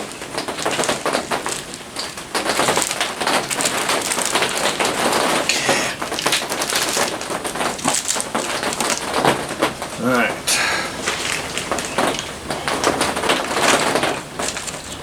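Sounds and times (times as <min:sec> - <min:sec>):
rain on a roof: 0:00.0 - 0:15.0.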